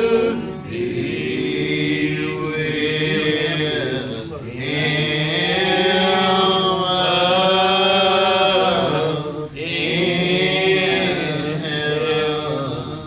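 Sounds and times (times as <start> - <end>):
voices singing a slow hymn: 0.0 - 13.0.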